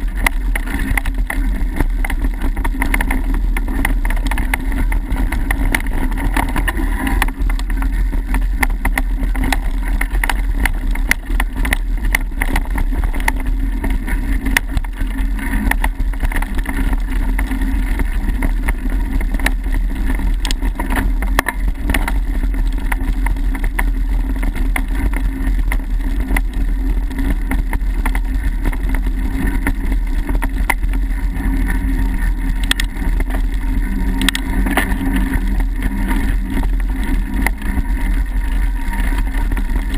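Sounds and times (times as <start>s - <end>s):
bike clicks and rattles: 0.0s - 39.9s
tyres rumbling on dirt: 0.0s - 39.9s.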